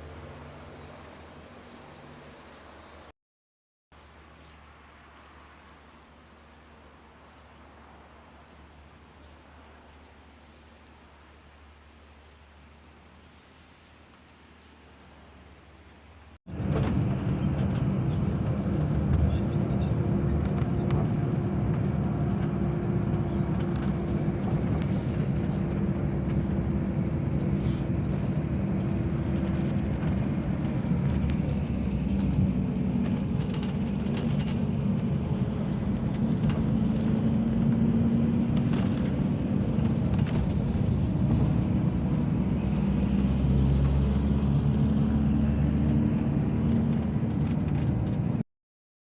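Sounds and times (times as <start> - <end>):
vehicle engine rumbling: 0.0 - 3.1, 4.0 - 48.4.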